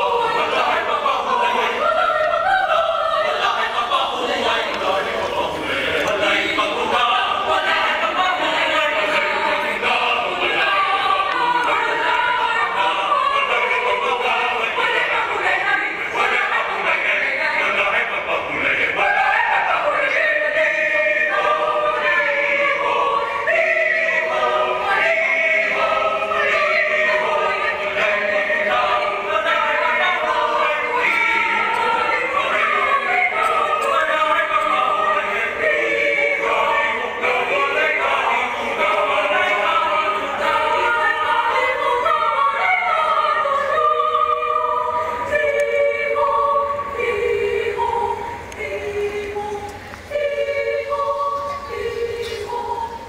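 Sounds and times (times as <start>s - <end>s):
mixed choir singing: 0.0s - 53.0s.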